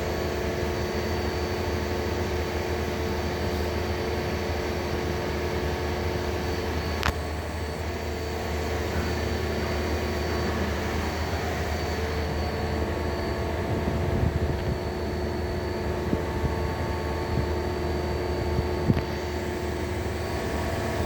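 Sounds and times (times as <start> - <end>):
lathe humming and whining: 0.0 - 21.0.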